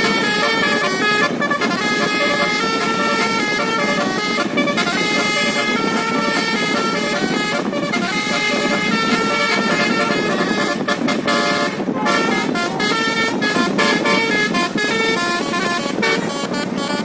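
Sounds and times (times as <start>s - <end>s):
bus horn playing a melody: 0.0s - 17.0s.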